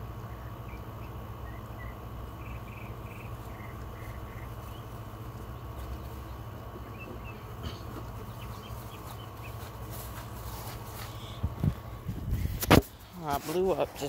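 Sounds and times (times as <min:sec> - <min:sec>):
birds chirping: 0:00.0 - 0:12.0
low steady rumble: 0:00.0 - 0:14.0.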